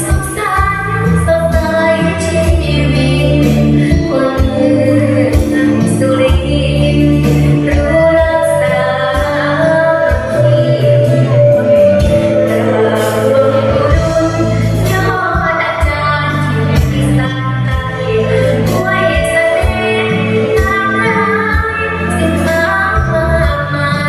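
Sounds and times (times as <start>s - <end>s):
backing track with steady beat: 0.0s - 24.0s
girl singing into microphone: 0.0s - 24.0s.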